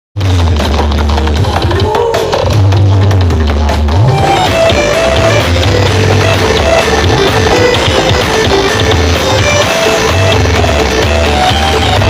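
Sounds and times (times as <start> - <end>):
loud bass-heavy music on loudspeakers: 0.2 - 12.0.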